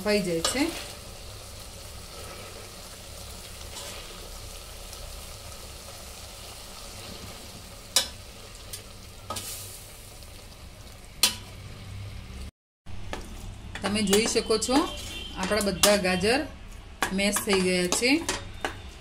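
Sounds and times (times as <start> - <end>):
mixture sizzling: 0.0 - 19.0.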